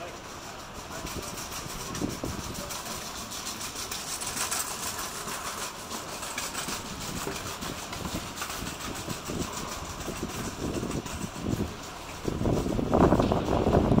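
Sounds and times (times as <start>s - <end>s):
jet engine noise: 0.0s - 14.0s
wind buffeting microphone: 0.4s - 14.0s.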